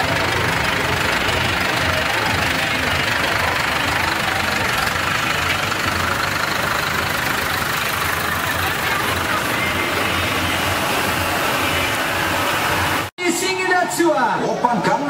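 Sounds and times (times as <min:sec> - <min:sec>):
tractor diesel engine idling: 0:00.0 - 0:13.1.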